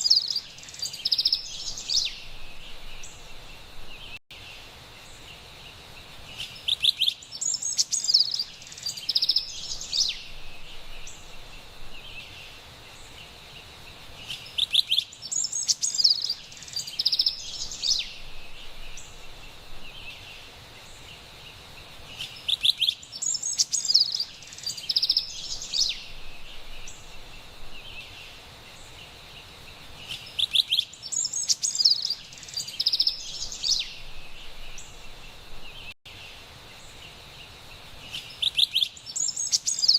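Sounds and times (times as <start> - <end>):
wren singing: 0.0 - 4.2, 6.3 - 21.2, 22.1 - 29.2, 29.8 - 36.0, 36.8 - 39.9
faint background hiss: 0.0 - 39.9.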